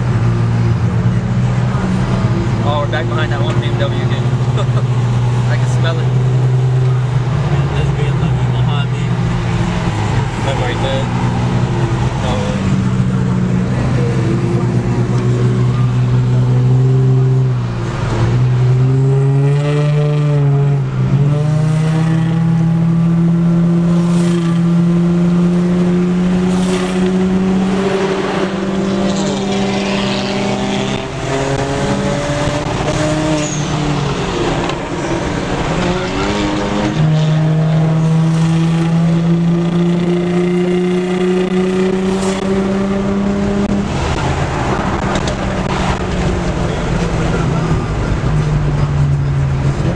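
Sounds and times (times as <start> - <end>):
car engine accelerating through gears: 0.0 - 49.9.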